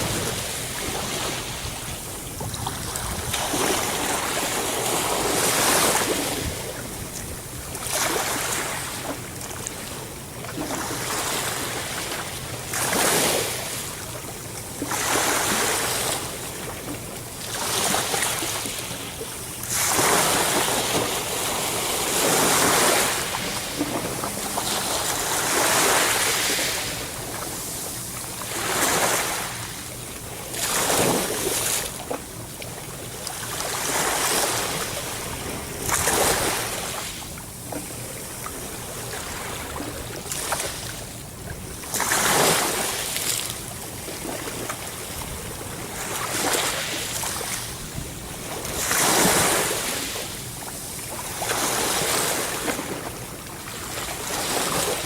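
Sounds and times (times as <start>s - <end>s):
sea waves surging: 0.0s - 55.0s.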